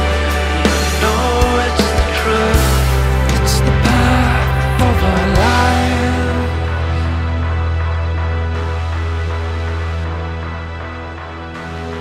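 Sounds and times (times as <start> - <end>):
held chord: 0.0 - 12.0
steady deep bass note: 0.0 - 12.0.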